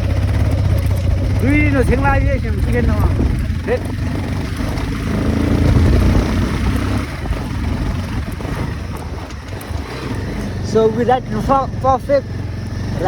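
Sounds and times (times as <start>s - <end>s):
motorcycle engine under load: 0.0s - 13.0s.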